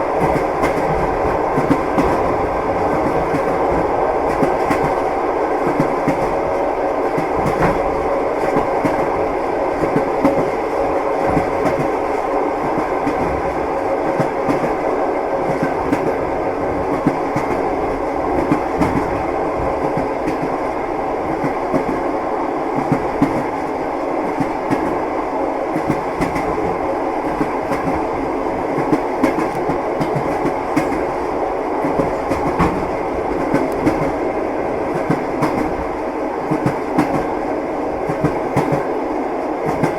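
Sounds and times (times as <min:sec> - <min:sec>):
train wheels clattering over rails: 0:00.0 - 0:14.8, 0:15.4 - 0:22.0, 0:25.7 - 0:31.2, 0:31.8 - 0:34.2, 0:34.8 - 0:37.4, 0:38.0 - 0:38.9, 0:39.6 - 0:39.9.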